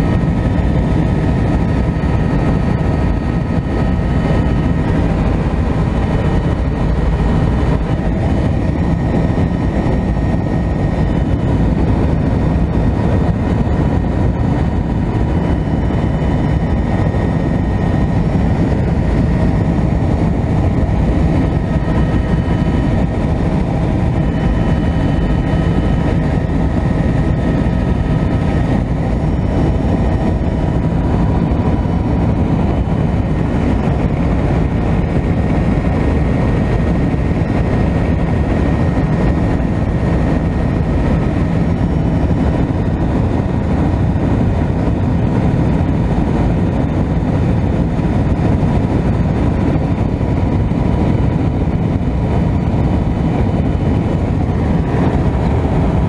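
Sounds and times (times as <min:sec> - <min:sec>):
faint steady whine: 0:00.0 - 0:56.0
helicopter engine and rotor drone: 0:00.0 - 0:56.0.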